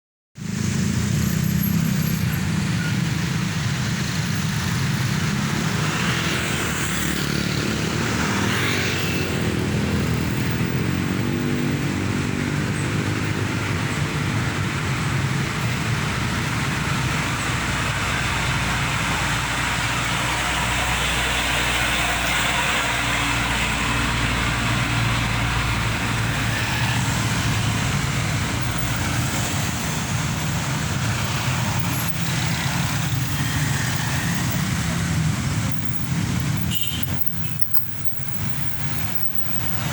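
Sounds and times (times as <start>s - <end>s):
traffic: 0.4s - 39.9s
truck diesel engine accelerating: 0.6s - 39.9s.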